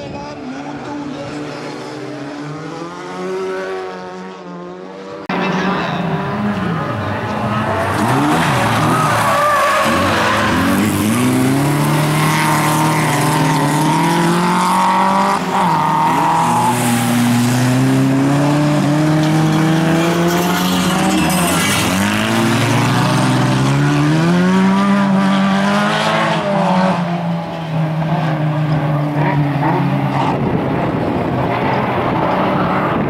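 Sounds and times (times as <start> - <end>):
race car engines at full throttle: 0.0 - 33.0.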